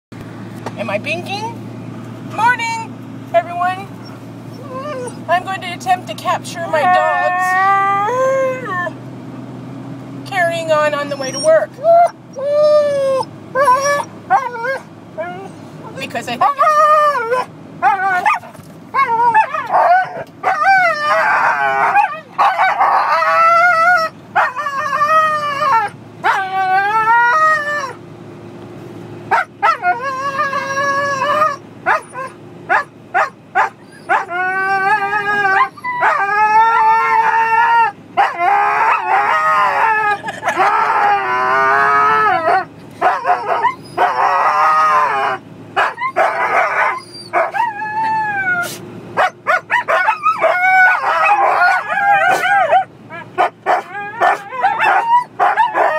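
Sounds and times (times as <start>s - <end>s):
low road hum: 0.1s - 55.9s
dogs howling: 4.0s - 5.4s, 6.8s - 9.0s, 11.0s - 15.6s, 16.4s - 28.0s, 29.3s - 55.9s.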